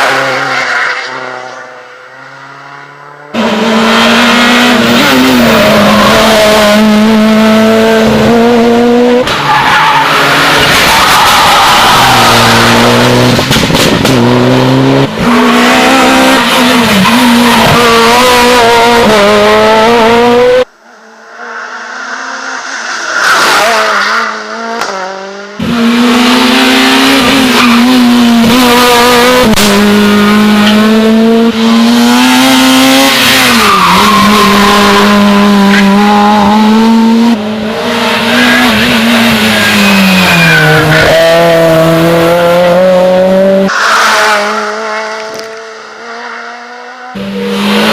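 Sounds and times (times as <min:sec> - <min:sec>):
rally car engines at full throttle: 0:00.0 - 0:47.9.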